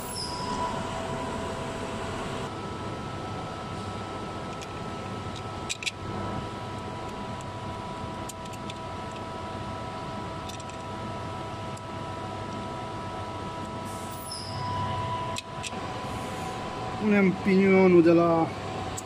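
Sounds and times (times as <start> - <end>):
workshop hum: 0.0 - 19.0.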